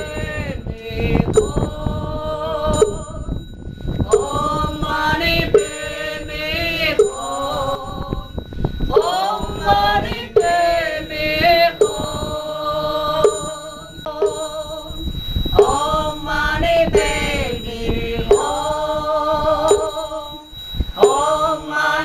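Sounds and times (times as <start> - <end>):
voices chanting a mantra: 0.0 - 22.0.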